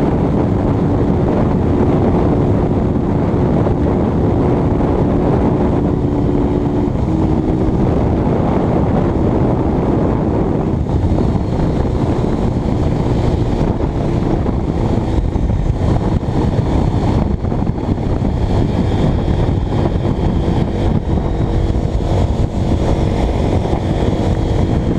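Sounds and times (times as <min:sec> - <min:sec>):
motorcycle engine running: 0:00.0 - 0:24.9
wind noise on microphone: 0:00.0 - 0:24.9.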